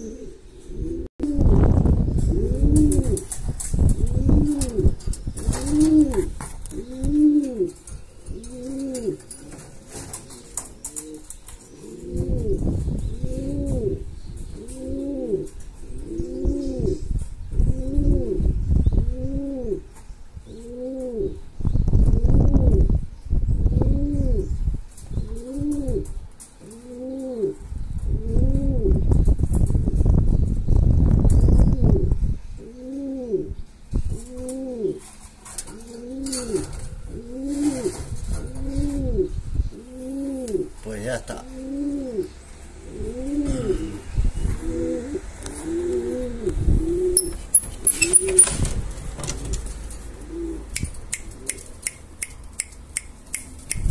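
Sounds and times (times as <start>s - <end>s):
pigeon cooing: 0.0s - 1.6s, 2.3s - 3.3s, 4.0s - 19.9s, 20.5s - 21.4s, 23.7s - 24.5s, 25.2s - 29.0s, 31.6s - 48.6s, 50.0s - 52.8s.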